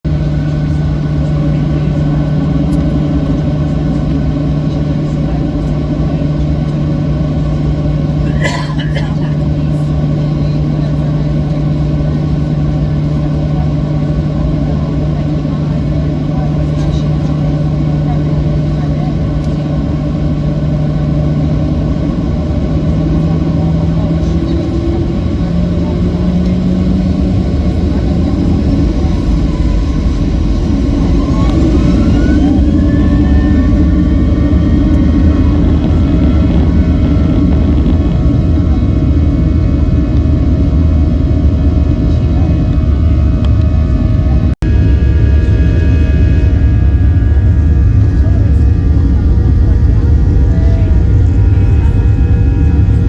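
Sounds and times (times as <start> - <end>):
engine rumble with low hum: 0.0 - 53.0.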